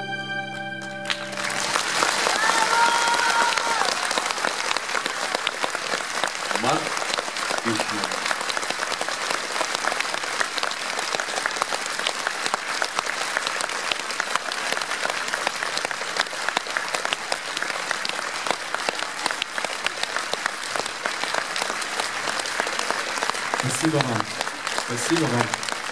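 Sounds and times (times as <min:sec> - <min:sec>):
large audience applauding: 0:00.2 - 0:25.9.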